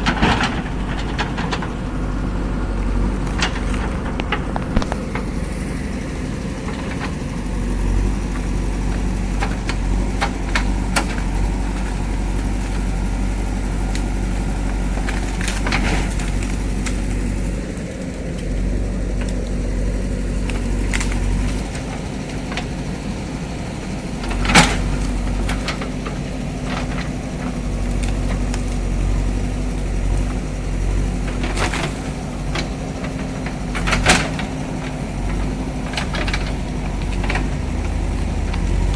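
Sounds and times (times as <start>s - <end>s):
sharp knocks and cracks: 0.0s - 5.5s, 7.9s - 38.9s
diesel engine running: 0.0s - 38.9s.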